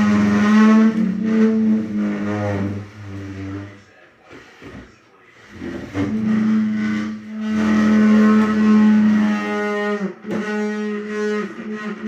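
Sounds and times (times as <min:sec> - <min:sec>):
chair creaking: 0:00.0 - 0:12.0.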